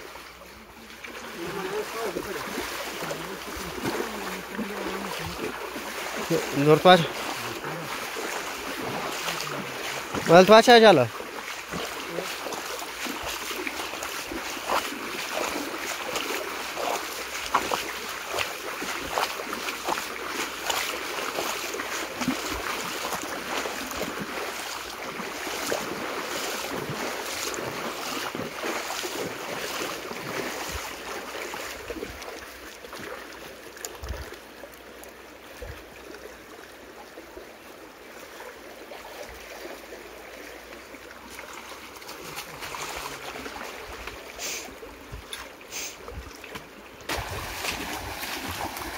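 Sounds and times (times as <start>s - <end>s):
people wading and splashing: 0.0s - 48.9s
stream water rushing: 0.0s - 48.9s.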